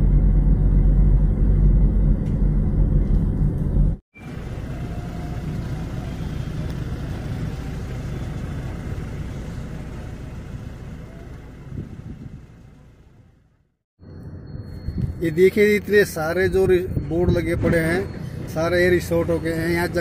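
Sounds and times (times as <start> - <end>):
road and engine rumble in car: 0.0 - 20.0.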